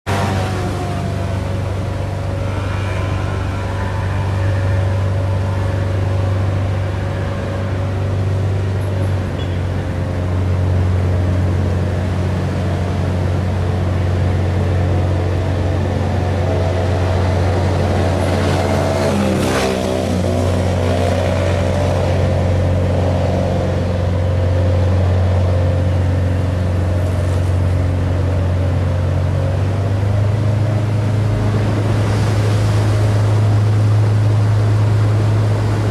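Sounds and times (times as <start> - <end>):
boat engine drone: 0.0 - 35.9.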